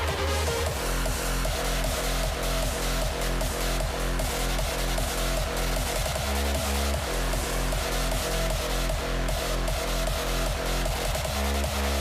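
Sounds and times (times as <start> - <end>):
music with beat and bass: 0.0 - 12.0.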